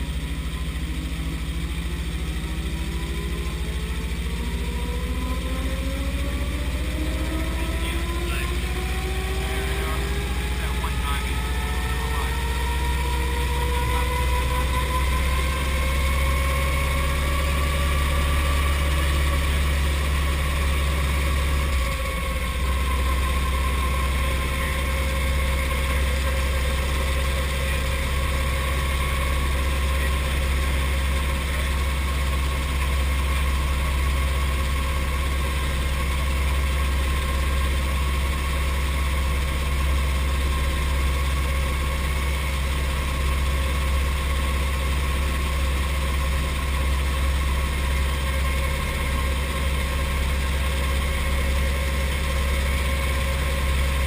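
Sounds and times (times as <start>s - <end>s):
engine whine: 0.0s - 54.0s
helicopter engine idling: 0.0s - 54.0s.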